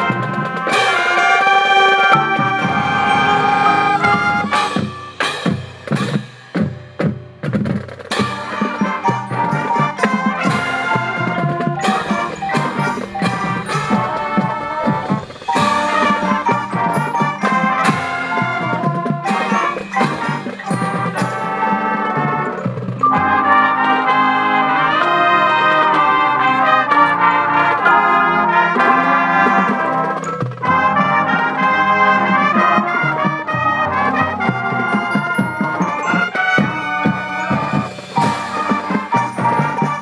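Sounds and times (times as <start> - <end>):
marching band brass: 0.0 - 40.0
percussion playing: 0.0 - 40.0.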